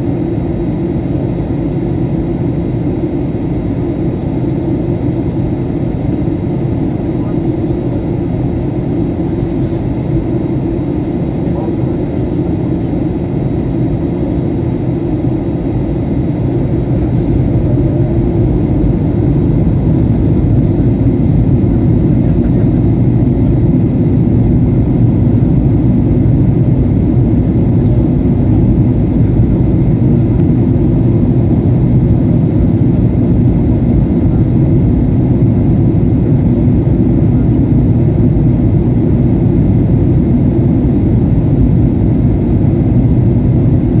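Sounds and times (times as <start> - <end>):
jet engines rumbling in cabin: 0.0 - 44.0.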